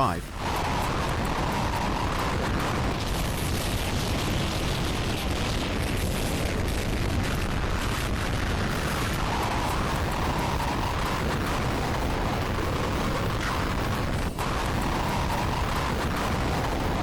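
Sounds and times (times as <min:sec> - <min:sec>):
rain: 0:00.0 - 0:17.0
storm wind rushing: 0:00.0 - 0:17.0
wind gusts on microphone: 0:00.0 - 0:17.0.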